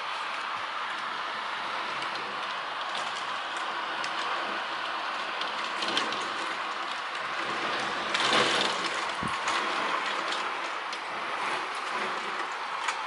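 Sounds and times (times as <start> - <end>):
heavy rain pouring: 0.0 - 13.0
raindrops tapping surfaces: 0.0 - 13.0.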